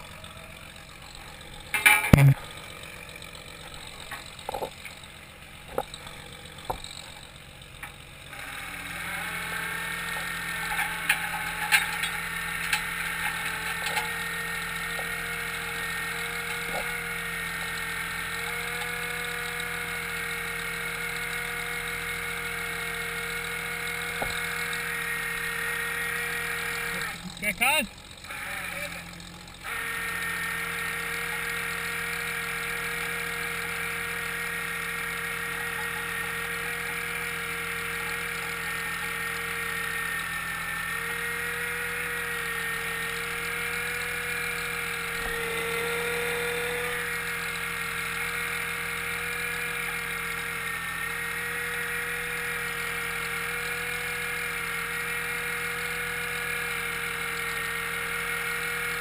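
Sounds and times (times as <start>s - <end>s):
boat engine and machinery hum: 0.0s - 59.0s
wavering machine whines: 0.0s - 59.0s.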